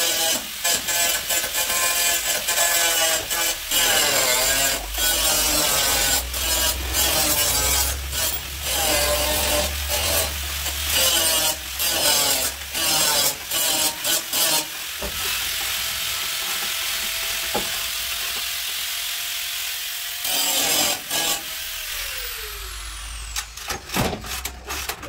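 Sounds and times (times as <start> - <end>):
power tool whining: 0.0 - 25.0.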